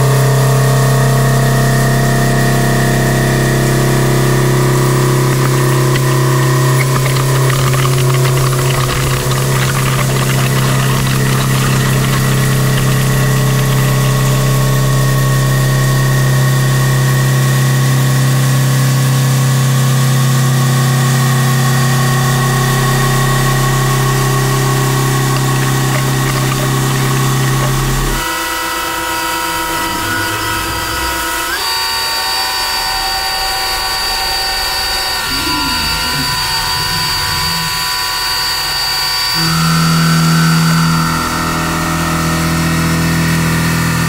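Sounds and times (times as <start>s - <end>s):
milling machine deep hum: 0.0s - 17.5s, 21.0s - 41.8s.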